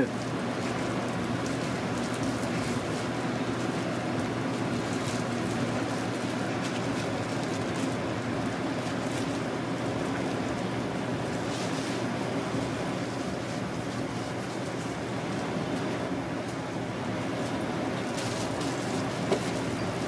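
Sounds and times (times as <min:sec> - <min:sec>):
hot oil sizzling: 0:00.0 - 0:20.0
steady low hum: 0:00.0 - 0:20.0.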